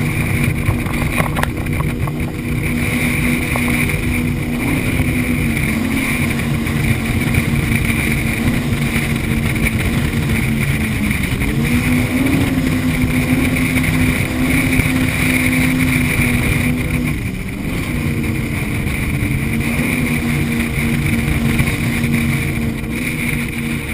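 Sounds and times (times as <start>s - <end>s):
powerboat engines droning: 0.0s - 23.9s
water rushing against hull: 0.0s - 23.9s
wind on microphone: 0.0s - 23.9s.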